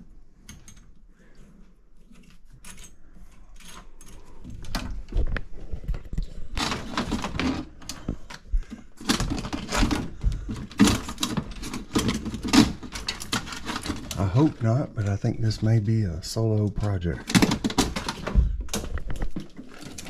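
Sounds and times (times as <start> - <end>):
knocking rattling and scraping: 2.0 - 15.8, 17.0 - 20.0.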